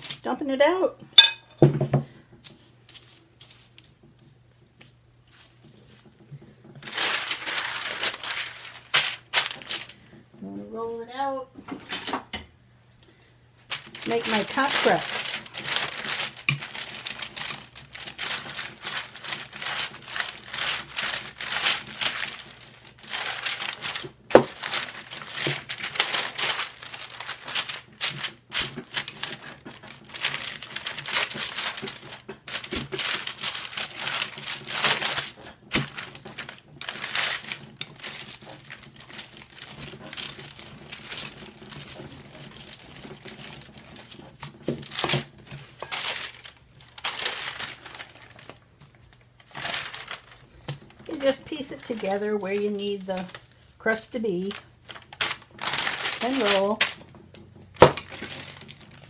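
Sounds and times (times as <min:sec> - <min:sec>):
parchment paper crinkling: 0:02.5 - 0:10.4, 0:13.6 - 0:59.0.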